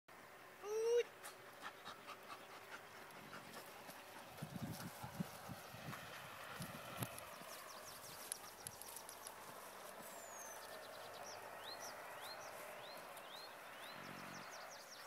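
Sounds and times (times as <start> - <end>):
faint outdoor background noise: 0.1 - 15.0
birds chirping: 0.8 - 15.0.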